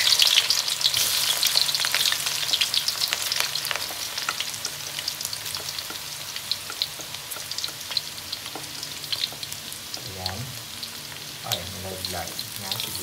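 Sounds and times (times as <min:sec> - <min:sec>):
garlic sizzling in hot oil: 0:00.0 - 0:13.0.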